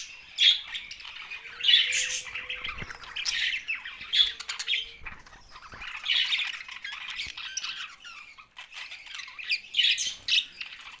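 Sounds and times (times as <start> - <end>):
budgerigars chattering: 0.0 - 11.0.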